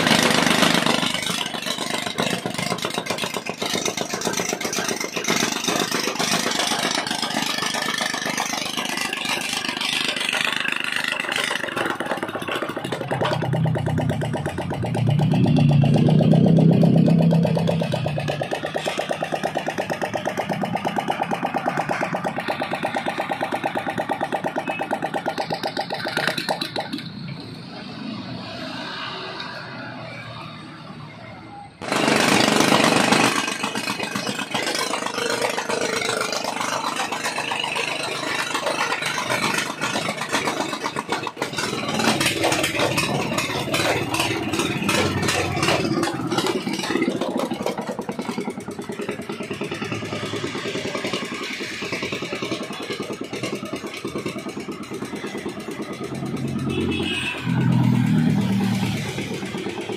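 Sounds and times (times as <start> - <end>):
rammer engine running: 0.0 - 29.8, 31.8 - 59.9.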